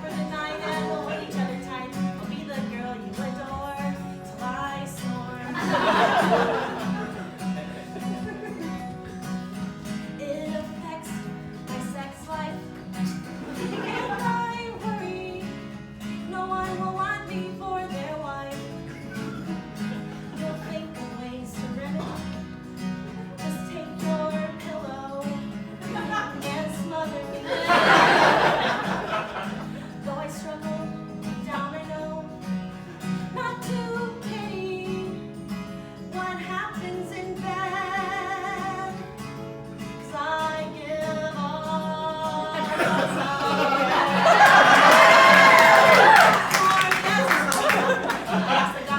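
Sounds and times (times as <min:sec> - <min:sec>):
woman singing: 0:00.0 - 0:06.4, 0:09.8 - 0:19.5, 0:20.2 - 0:27.7, 0:29.7 - 0:48.9
acoustic guitar strumming: 0:00.0 - 0:48.9.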